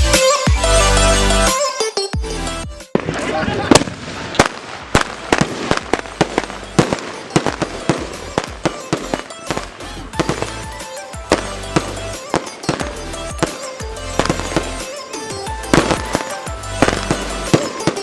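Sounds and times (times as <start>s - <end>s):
background music: 0.0s - 18.0s
fireworks cracking and popping: 2.9s - 18.0s.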